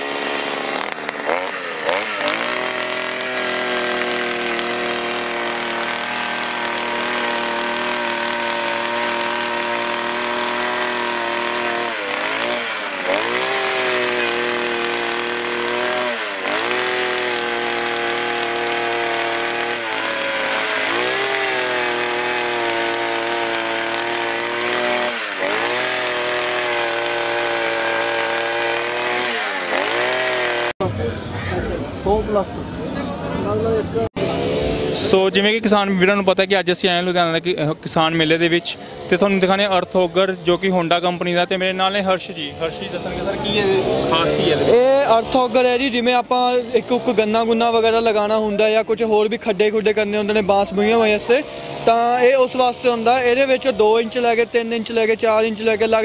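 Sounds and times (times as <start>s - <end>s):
earth auger engine running: 0.0s - 30.8s, 38.1s - 47.5s, 50.0s - 56.0s.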